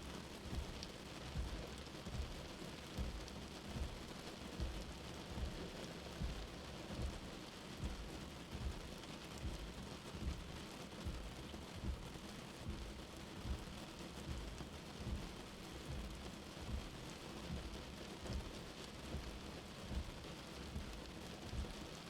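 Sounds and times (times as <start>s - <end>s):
steady rain: 0.0s - 22.0s
low heartbeat thump: 0.4s - 7.2s, 7.8s - 21.8s.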